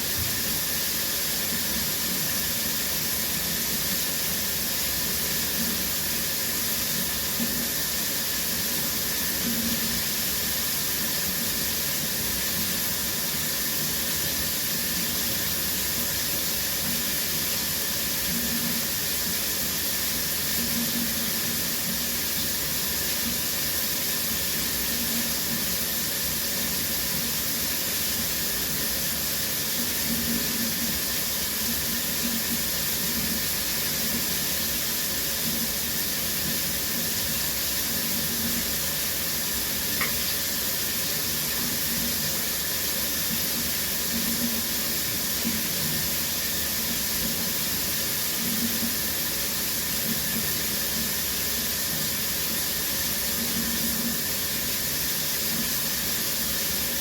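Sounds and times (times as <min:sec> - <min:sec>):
shower water spraying: 0:00.0 - 0:57.0.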